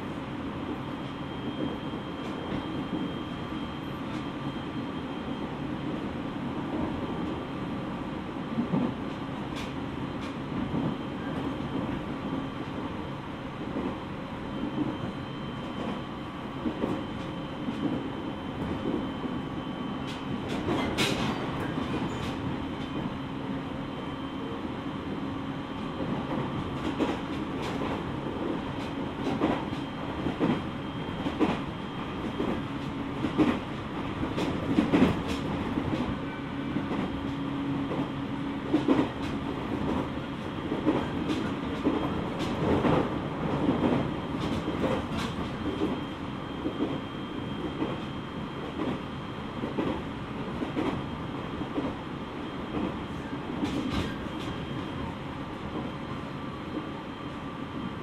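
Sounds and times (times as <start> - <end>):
train hum and rumble: 0.0 - 58.0.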